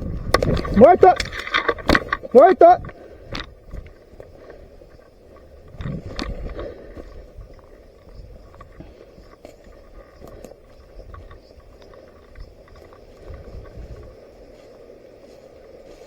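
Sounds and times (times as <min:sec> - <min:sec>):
steady low rumble: 0:01.7 - 0:16.0.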